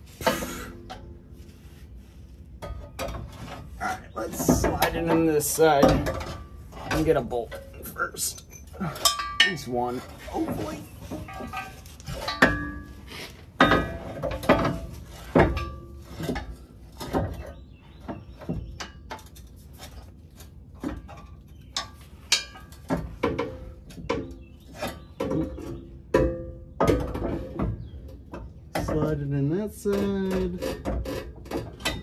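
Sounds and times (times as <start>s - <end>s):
metal clanks and knocks: 2.5s - 32.0s.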